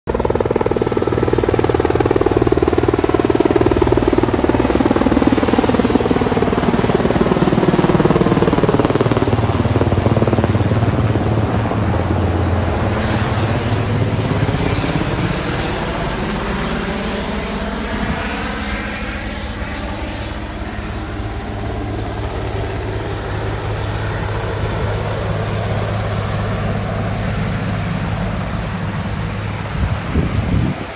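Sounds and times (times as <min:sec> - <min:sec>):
helicopters flying overhead: 0:00.1 - 0:30.9.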